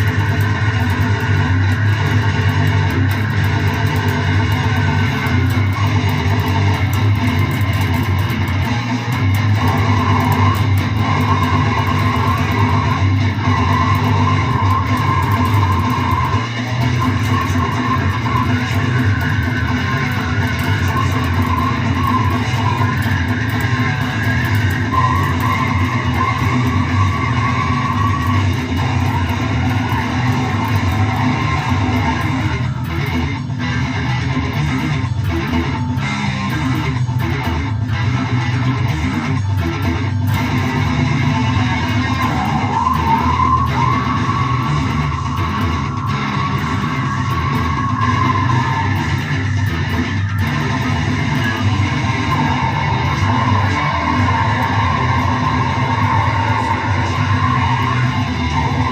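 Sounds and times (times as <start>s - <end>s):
death metal guitars and bass: 0.0s - 58.9s.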